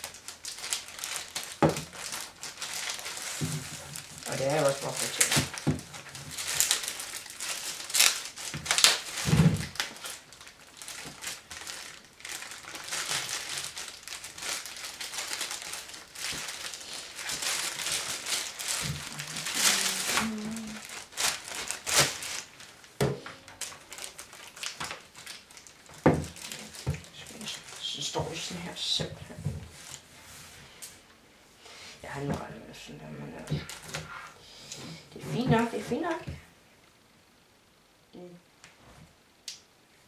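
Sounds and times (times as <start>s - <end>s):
plastic bag crinkling: 0.0s - 30.0s, 33.2s - 36.3s.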